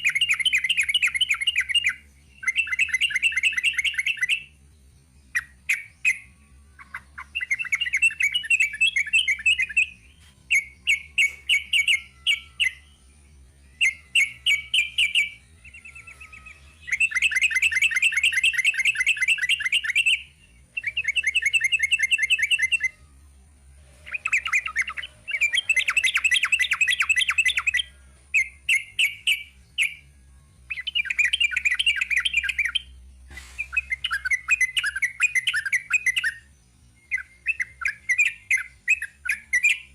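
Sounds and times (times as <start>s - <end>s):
bulbul singing rapid trills: 0.0s - 23.0s, 23.9s - 30.0s, 30.6s - 39.9s.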